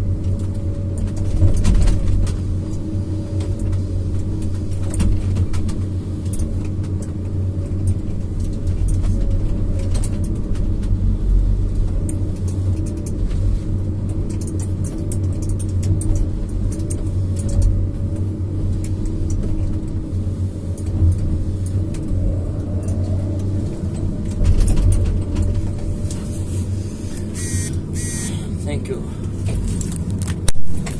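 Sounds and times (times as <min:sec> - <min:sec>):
diesel engine and hydraulics running: 0:00.0 - 0:30.9.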